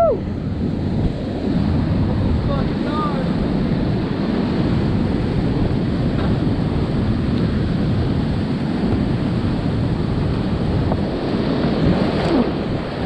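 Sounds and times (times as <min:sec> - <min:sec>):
rushing whitewater: 0:00.0 - 0:13.0.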